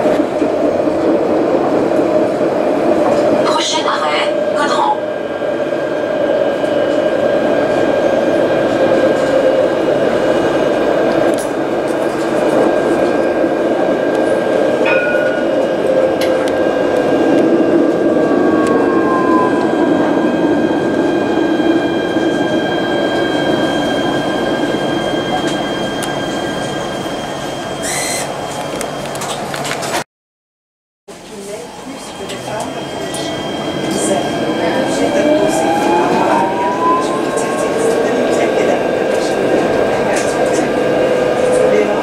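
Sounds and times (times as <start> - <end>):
wheels rumbling on rail: 0.0 - 30.0, 31.1 - 42.0.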